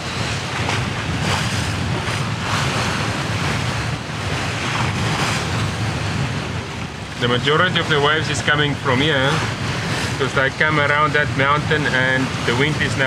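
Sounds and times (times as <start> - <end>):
sea splashing against hull: 0.0 - 13.0
wind gusting over microphone: 0.0 - 13.0.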